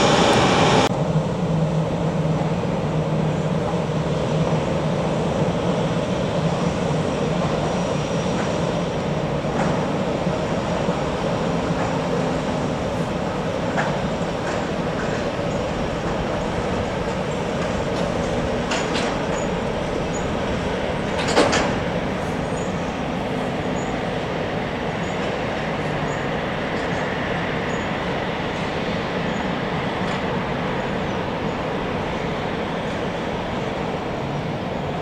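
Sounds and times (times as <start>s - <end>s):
jet airliner engines taxiing: 0.0s - 35.0s.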